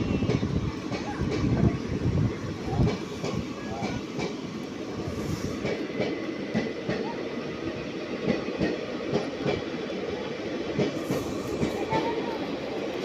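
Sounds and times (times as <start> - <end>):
wheels clacking on rails: 0.0 - 10.0, 10.6 - 13.0
rail vehicle rumble: 0.0 - 13.0.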